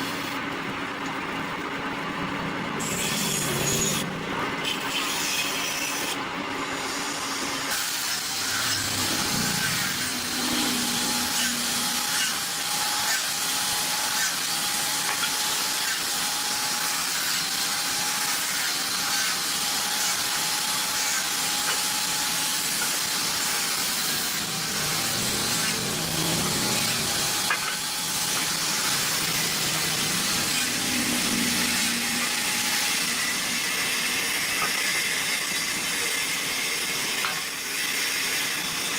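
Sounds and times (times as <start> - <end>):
workshop tool hissing: 4.9 - 38.4.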